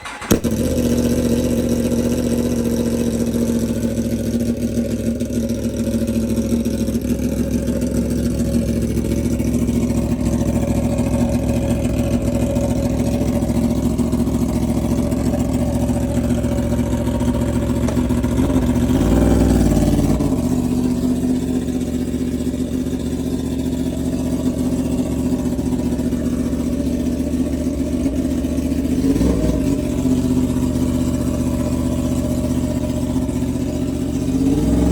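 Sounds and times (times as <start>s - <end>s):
motorcycle engine idling: 0.0s - 34.9s
motorcycle throttle blips: 0.0s - 34.9s.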